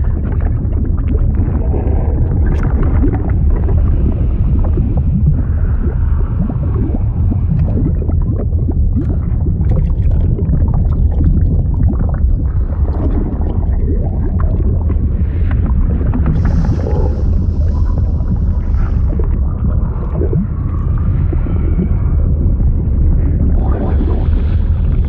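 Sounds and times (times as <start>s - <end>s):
liquid rumbling and bubbling: 0.0s - 25.0s.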